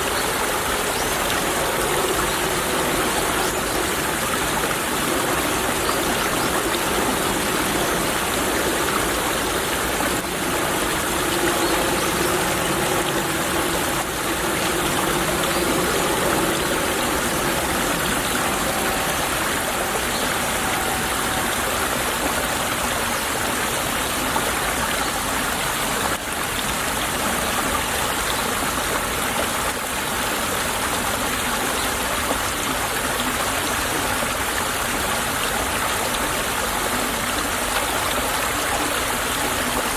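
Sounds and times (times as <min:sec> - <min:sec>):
brook water babbling: 0:00.0 - 0:39.9.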